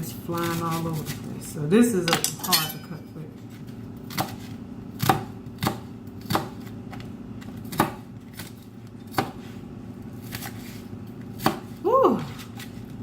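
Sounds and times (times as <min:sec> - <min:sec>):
knife chopping onion: 0:00.0 - 0:01.4, 0:03.4 - 0:13.0.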